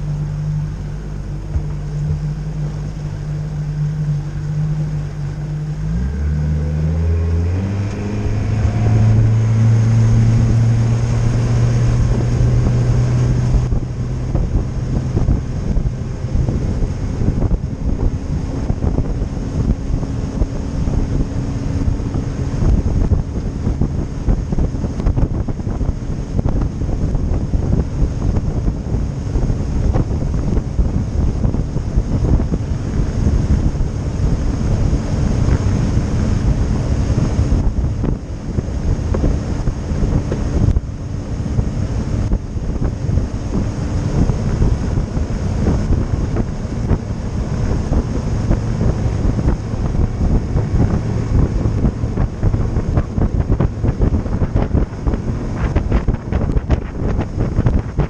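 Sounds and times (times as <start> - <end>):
boat motor running: 0.0 - 58.0
water rushing past hull: 0.0 - 58.0
wind buffeting microphone: 0.0 - 58.0.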